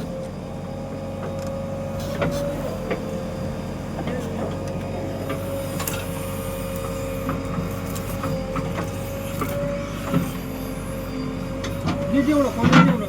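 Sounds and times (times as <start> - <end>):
diesel engine running: 0.0 - 13.0
engine whine: 0.0 - 13.0.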